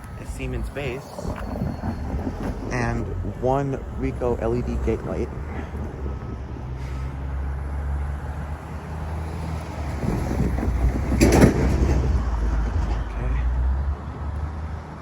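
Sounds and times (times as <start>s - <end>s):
road traffic rumble: 0.0s - 15.0s
vehicle passing close: 0.0s - 15.0s.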